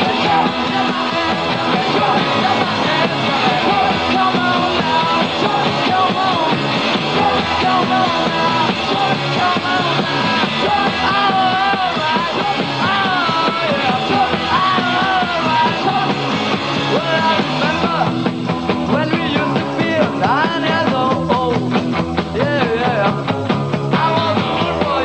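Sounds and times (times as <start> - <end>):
bending lead guitar line: 0.0 - 25.0
rock band playing loud: 0.0 - 25.0.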